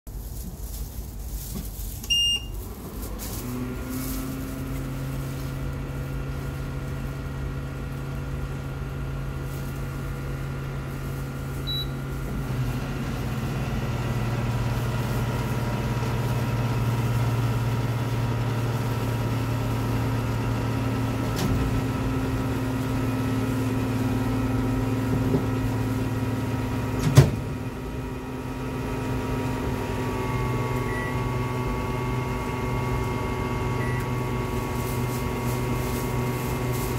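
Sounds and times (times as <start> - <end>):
cooking machine humming: 2.0 - 36.9.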